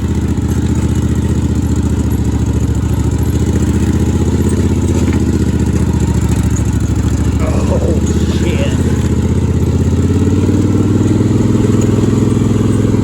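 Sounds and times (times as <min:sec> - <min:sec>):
atv engine throbbing: 0:00.0 - 0:13.0.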